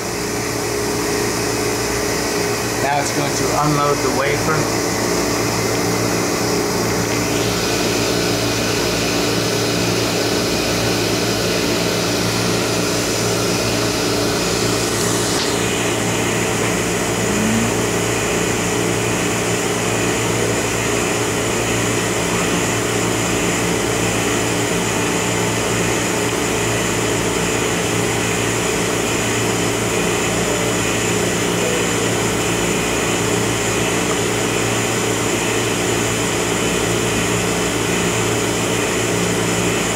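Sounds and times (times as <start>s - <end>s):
machine hum and hiss: 0.0s - 39.9s.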